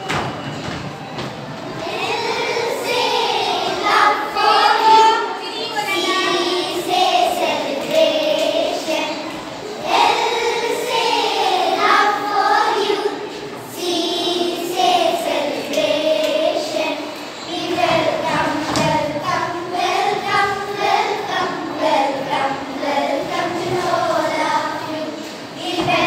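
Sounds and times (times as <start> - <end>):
girls singing in unison: 1.8 - 26.0.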